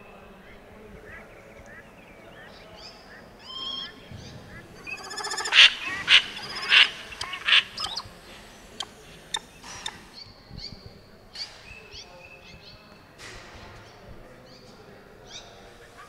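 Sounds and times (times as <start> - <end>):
bird calls over loudspeakers: 0.0 - 13.0.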